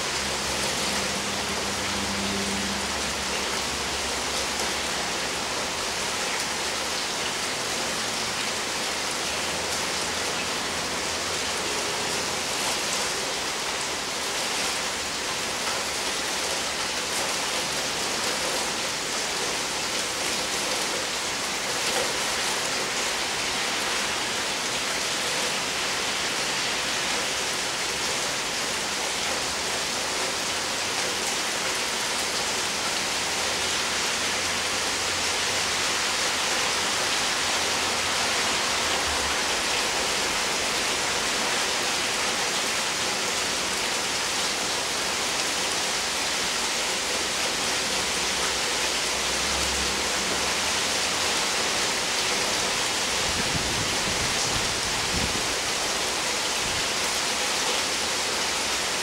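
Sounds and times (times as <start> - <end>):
rain falling on roofs and leaves: 0.0 - 59.0.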